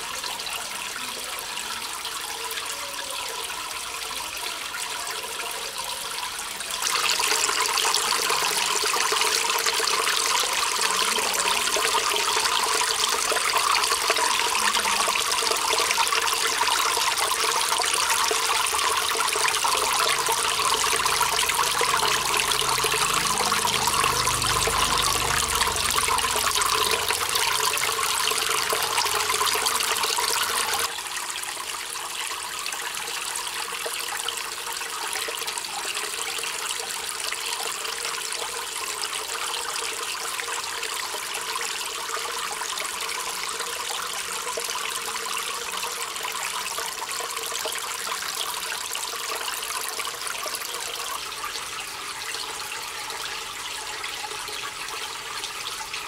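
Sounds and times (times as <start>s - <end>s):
water splashing trickle: 0.0s - 56.0s.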